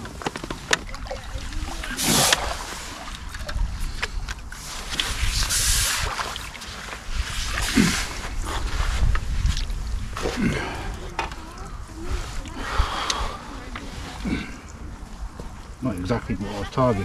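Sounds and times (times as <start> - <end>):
low wind rumble on microphone: 0.0 - 17.0.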